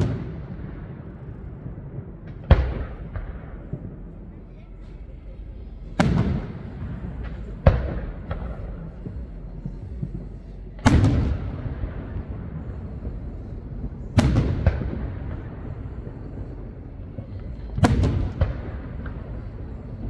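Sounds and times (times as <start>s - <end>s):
firework shell bursts: 0.0s - 20.0s
small firework cracks: 0.0s - 20.0s.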